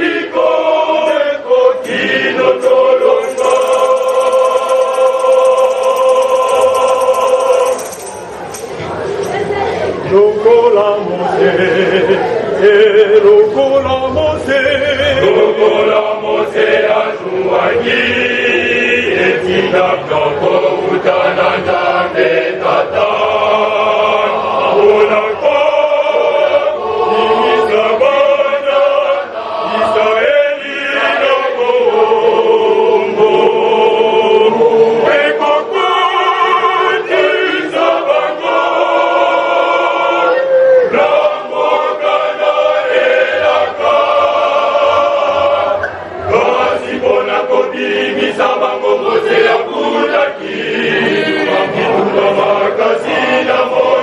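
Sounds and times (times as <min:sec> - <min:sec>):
male choir singing: 0:00.0 - 0:08.2, 0:10.0 - 0:54.0.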